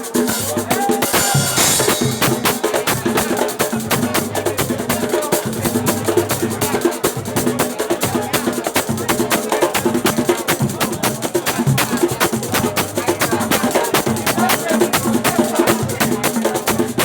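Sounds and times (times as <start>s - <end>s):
percussion music with bass line: 0.0s - 17.0s.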